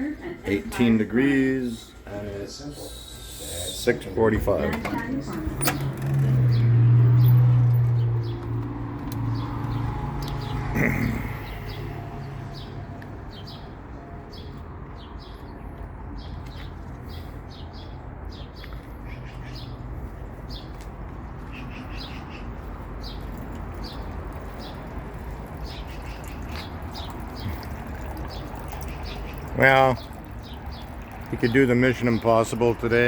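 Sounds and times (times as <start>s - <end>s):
small birds chirping: 2.7s - 33.0s.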